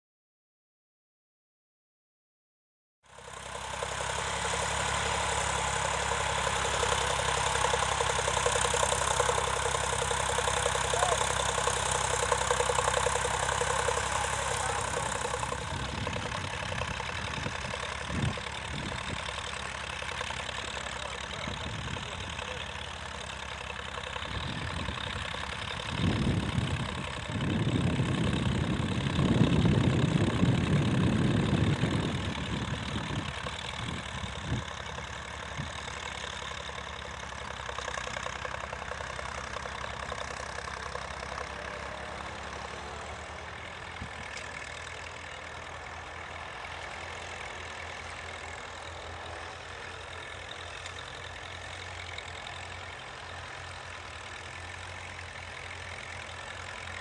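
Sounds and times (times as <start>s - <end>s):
tractor engine running: 3.1s - 57.0s.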